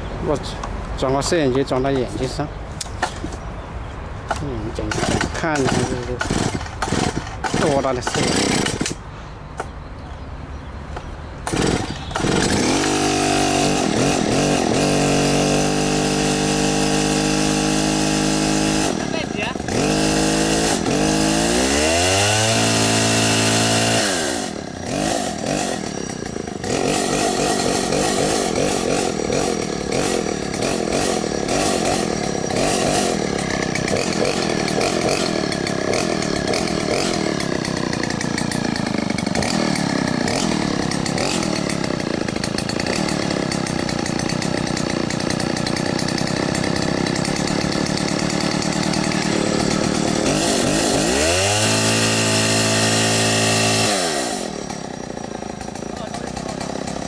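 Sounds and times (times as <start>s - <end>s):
chainsaw revving: 4.3s - 9.0s, 11.4s - 57.0s.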